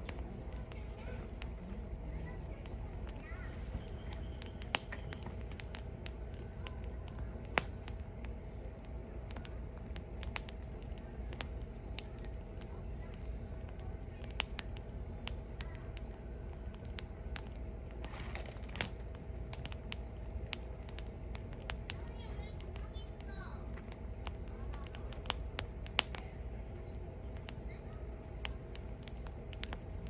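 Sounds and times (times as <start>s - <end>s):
firewood crackling and popping: 0.0s - 30.0s
low steady rumble: 0.0s - 30.0s.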